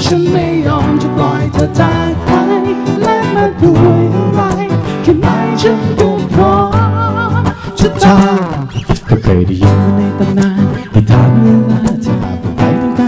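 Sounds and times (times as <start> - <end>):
man singing pop song: 0.0 - 13.0
strummed acoustic guitar: 0.0 - 13.0.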